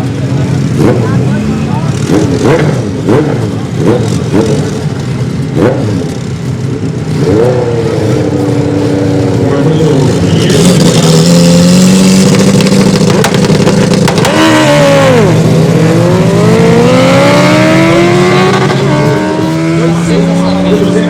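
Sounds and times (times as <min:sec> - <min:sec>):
race car engines accelerating: 0:00.0 - 0:21.0.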